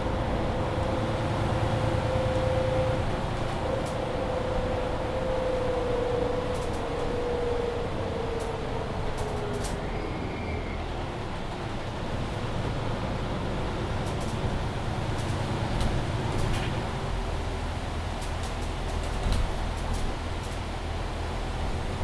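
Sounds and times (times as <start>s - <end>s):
bus driving with drivetrain whine: 0.0s - 22.0s.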